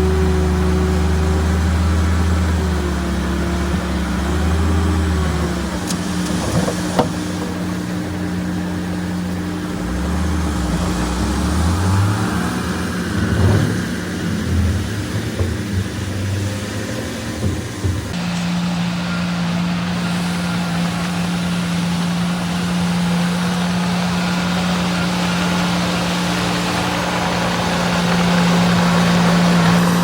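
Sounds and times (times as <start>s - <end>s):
heavy machinery diesel engine: 0.0s - 30.0s.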